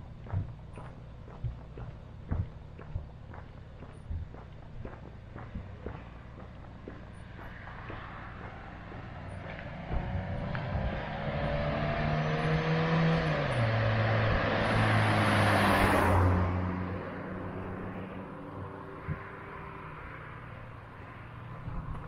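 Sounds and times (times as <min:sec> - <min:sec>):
motor vehicle passing: 0:00.0 - 0:22.0.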